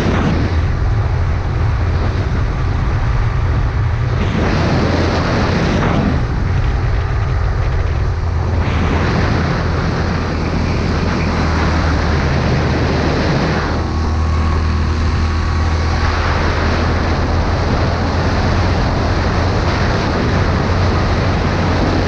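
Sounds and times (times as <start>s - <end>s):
go-kart engine drone: 0.0s - 22.0s
track noise: 0.0s - 22.0s
wind rush: 0.0s - 22.0s.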